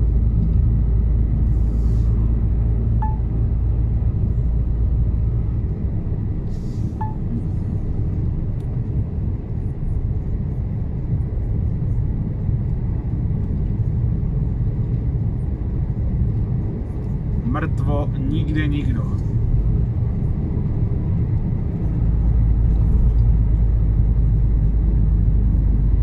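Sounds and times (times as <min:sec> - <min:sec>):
truck engine and road drone: 0:00.0 - 0:26.0.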